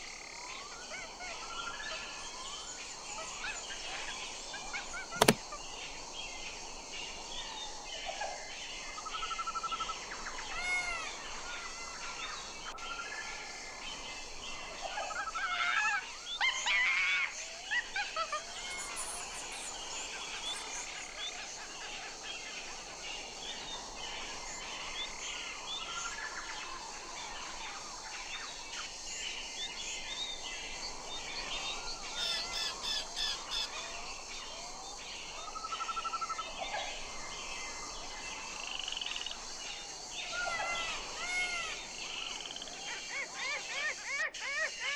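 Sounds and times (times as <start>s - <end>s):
steady background hiss: 0.0s - 44.9s
birds chirping and trilling: 8.7s - 44.9s.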